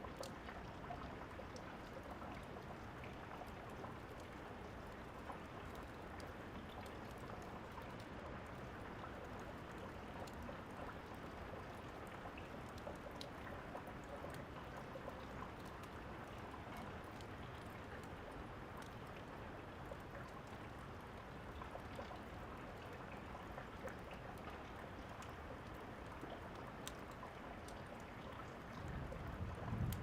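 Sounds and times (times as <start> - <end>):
faint wood fire crackles: 0.0 - 30.0
steady rain falling: 0.0 - 30.0.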